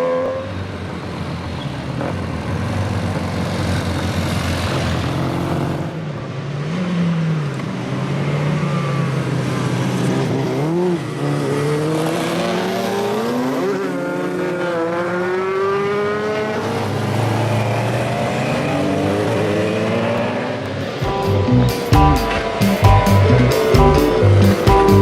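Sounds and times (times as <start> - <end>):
motorcycle engine revving: 1.7 - 25.0.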